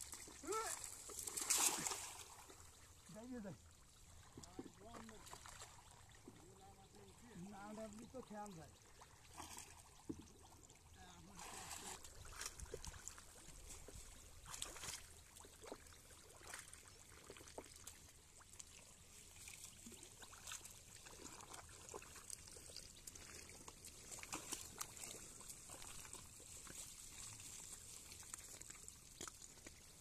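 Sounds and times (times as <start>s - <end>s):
small water splashes: 0.0s - 30.0s.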